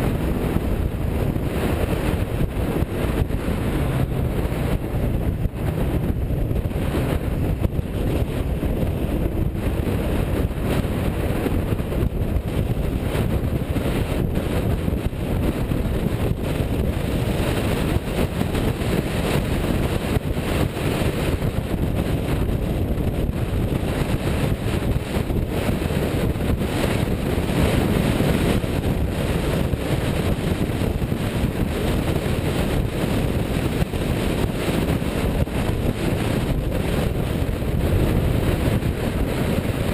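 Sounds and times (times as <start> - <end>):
car engine rumble: 0.0 - 39.9
wind buffeting microphone: 0.0 - 39.9.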